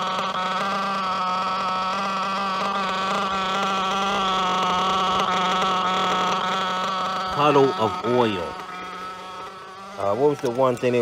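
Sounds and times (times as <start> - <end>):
nitro engine buzzing: 0.0 - 11.0.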